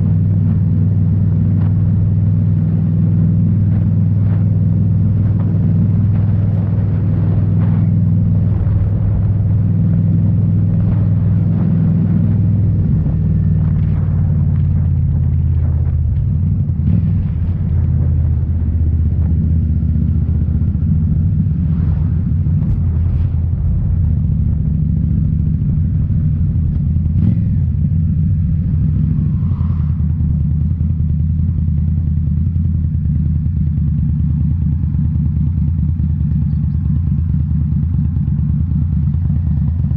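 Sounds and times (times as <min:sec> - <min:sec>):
motorcycle engine exhaust note: 0:00.0 - 0:39.9.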